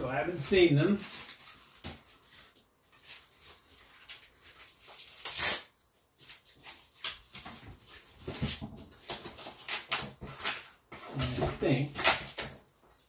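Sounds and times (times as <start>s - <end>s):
cardboard rustling and scraping: 0.1s - 13.0s.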